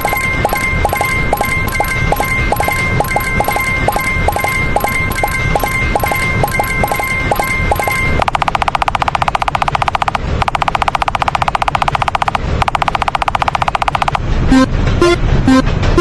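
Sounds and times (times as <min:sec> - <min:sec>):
fast rattling bell ring: 0:00.0 - 0:14.2
slower alternating ding: 0:00.0 - 0:15.6.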